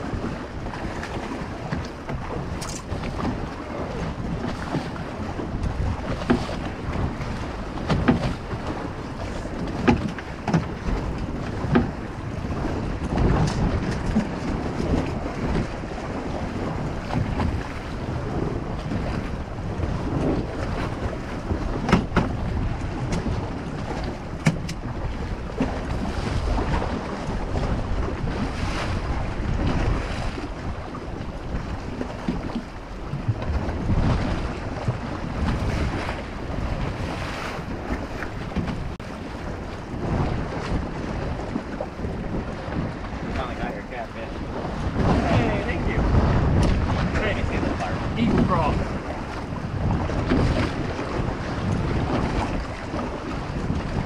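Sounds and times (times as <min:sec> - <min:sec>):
water slapping boat hull: 0:00.0 - 0:54.0
wind buffeting microphone: 0:00.0 - 0:54.0.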